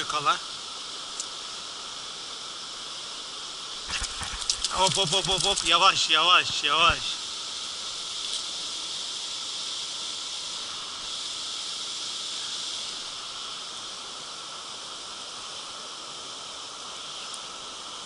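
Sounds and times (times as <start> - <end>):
river running over weir: 0.0 - 18.0.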